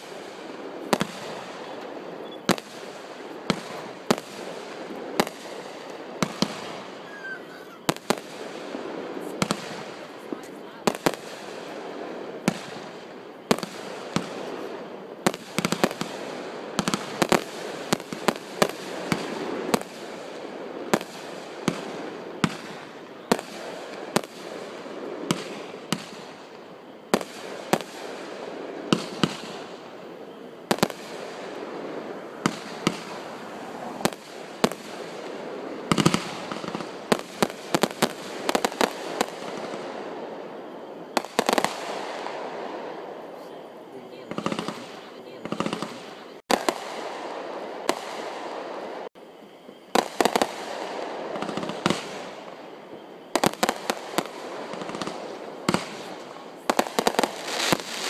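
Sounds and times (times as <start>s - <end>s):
continuous noisy background: 0.0s - 58.0s
fireworks bangs: 0.0s - 58.0s.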